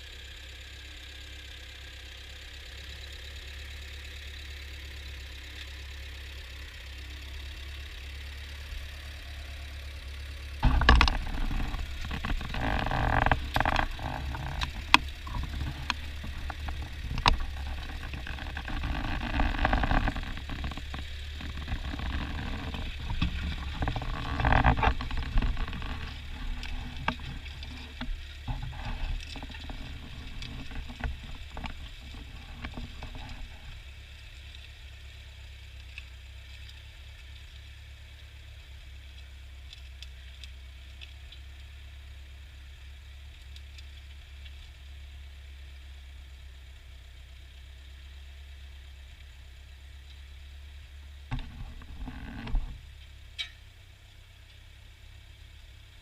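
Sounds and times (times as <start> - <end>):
tractor engine running: 0.0 - 45.6, 49.2 - 56.0.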